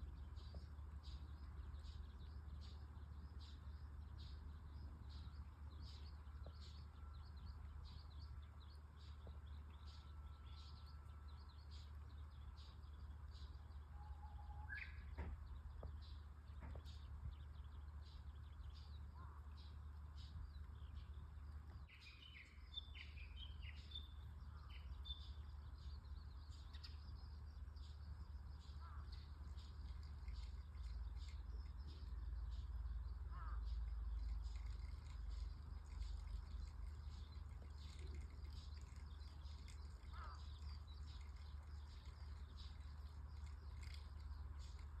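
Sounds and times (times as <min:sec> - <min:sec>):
small birds chirping: 0:00.0 - 0:45.0
steady low hum: 0:00.0 - 0:45.0
steady low rumble: 0:00.0 - 0:45.0.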